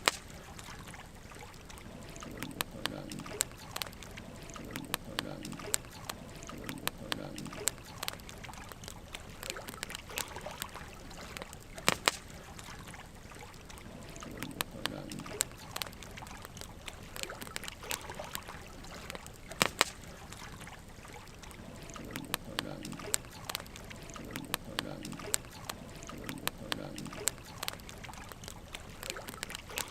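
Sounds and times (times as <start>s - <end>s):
soft hiss of flames: 0.0s - 29.9s
wood fire crackling and popping: 1.7s - 13.1s, 13.7s - 29.9s.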